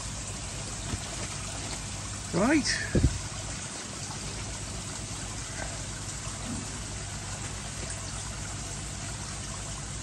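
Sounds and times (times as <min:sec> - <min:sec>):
low steady hum: 0:00.0 - 0:10.0
waterfall splashing into pond: 0:00.0 - 0:10.0.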